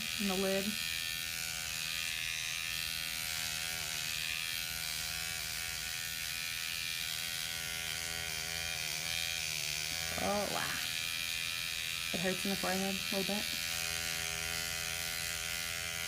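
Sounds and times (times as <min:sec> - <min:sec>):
microneedling pen buzzing: 0:00.0 - 0:16.0.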